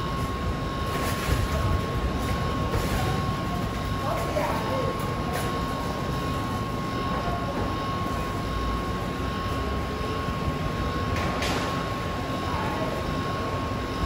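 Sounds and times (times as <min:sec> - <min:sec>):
busy food court din: 0:00.0 - 0:14.0
high-pitched hum: 0:00.0 - 0:14.0.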